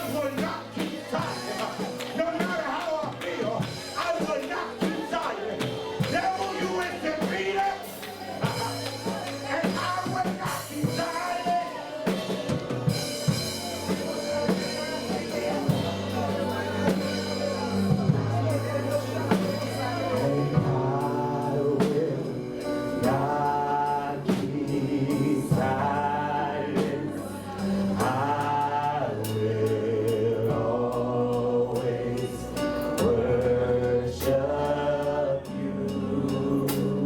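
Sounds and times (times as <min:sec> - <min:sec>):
drum kit: 0:00.0 - 0:37.0
sustained keyboard chords: 0:00.0 - 0:37.0
voices singing gospel: 0:00.0 - 0:37.0.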